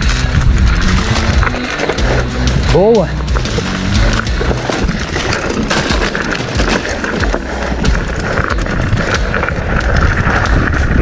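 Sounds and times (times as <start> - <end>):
bike knocks and rattles: 0.0 - 11.0
tyre and air noise: 0.0 - 11.0.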